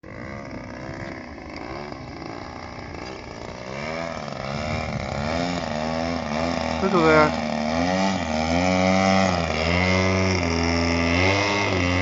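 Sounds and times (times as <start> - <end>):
model airplane engine: 0.0 - 12.0.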